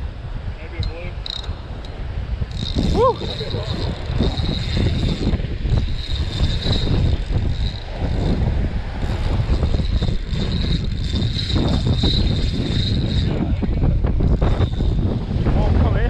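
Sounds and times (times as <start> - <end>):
wind buffeting microphone: 0.0 - 16.0
spinning reel cranking: 1.2 - 15.2.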